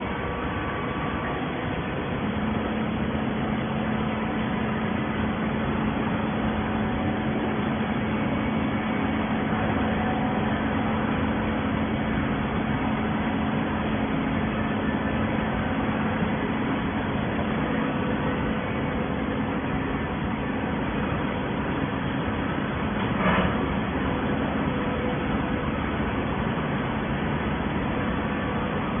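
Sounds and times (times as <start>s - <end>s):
industrial machinery rushing noise: 0.0s - 29.0s
low even hum: 0.0s - 29.0s.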